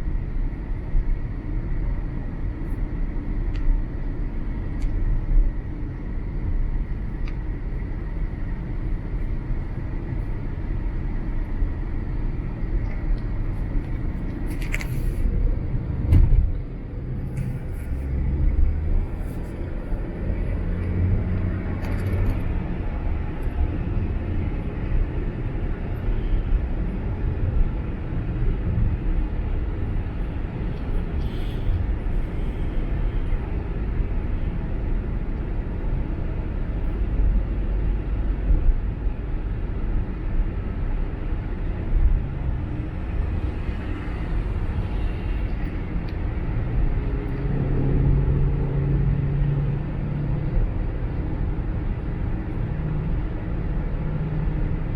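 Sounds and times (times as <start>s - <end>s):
car driving at highway speed: 0.0s - 54.9s
steady low hum: 0.0s - 54.9s.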